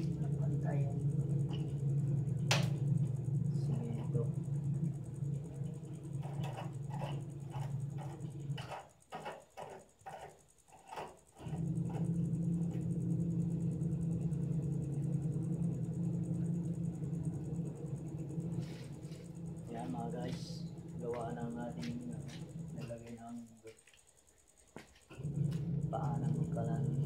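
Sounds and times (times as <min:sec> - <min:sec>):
washing machine motor humming: 0:00.0 - 0:10.3, 0:10.9 - 0:23.9, 0:24.5 - 0:27.0.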